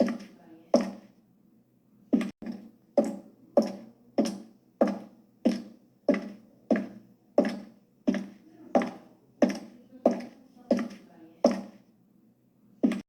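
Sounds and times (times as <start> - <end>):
high heel clicks walking: 0.0 - 1.0, 2.2 - 11.8.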